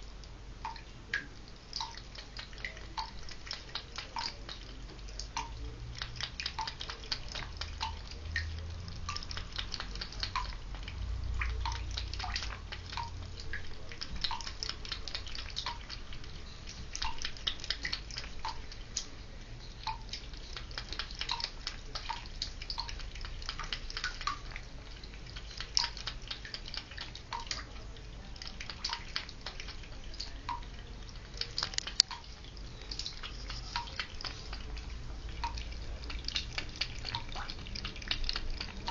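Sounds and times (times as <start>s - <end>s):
cat lapping water: 0.0s - 38.9s
soft water plink: 0.2s - 38.9s.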